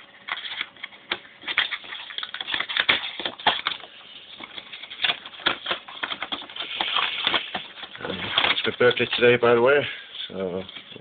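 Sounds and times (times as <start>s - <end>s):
cardboard rustling and scraping: 0.2s - 11.0s.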